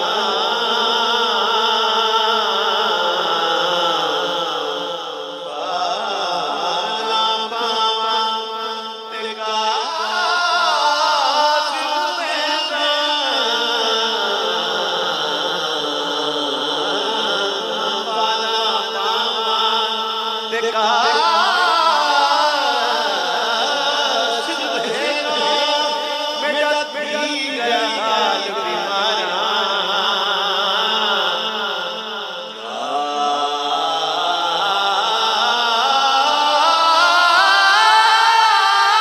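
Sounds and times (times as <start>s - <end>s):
man singing into a microphone: 0.0s - 39.0s.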